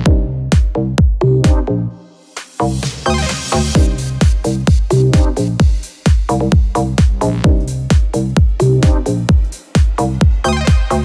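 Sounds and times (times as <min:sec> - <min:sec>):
heavy kick drum: 0:00.0 - 0:01.8, 0:02.6 - 0:11.0
electronic dance music: 0:00.0 - 0:11.0.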